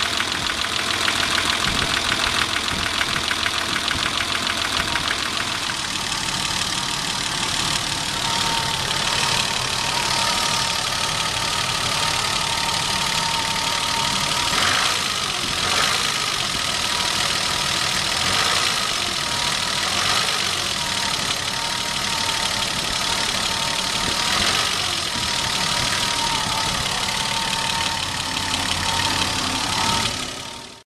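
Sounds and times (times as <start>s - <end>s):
car engine idling with knocking: 0.0s - 30.8s.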